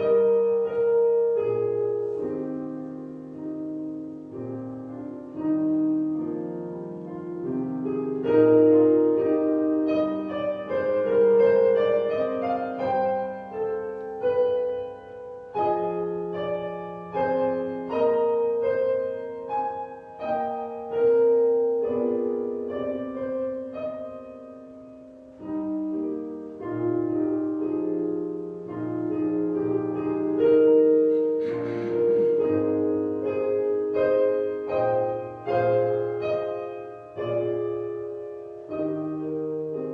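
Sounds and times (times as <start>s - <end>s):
slow solo piano piece: 0.0s - 39.9s.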